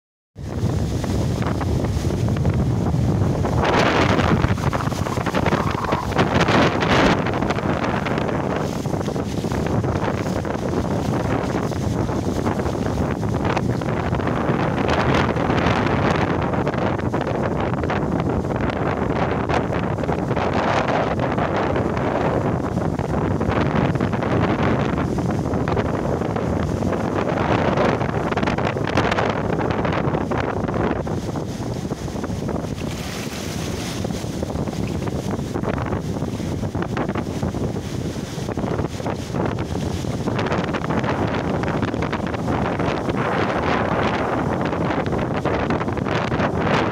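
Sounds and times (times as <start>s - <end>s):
surf washing up sand: 0.4s - 46.9s
wind buffeting microphone: 0.4s - 46.9s.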